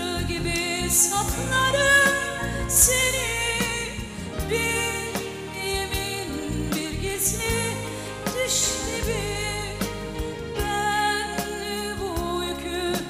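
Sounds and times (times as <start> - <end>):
sustained musical accompaniment: 0.0 - 13.0.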